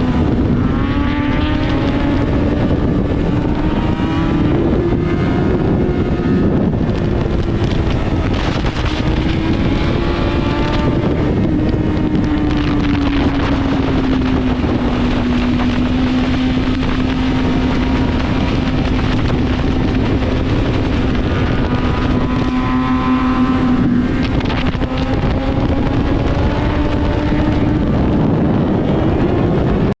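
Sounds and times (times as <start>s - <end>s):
heavy wind rush: 0.0s - 30.0s
motorcycle engine running: 0.0s - 30.0s.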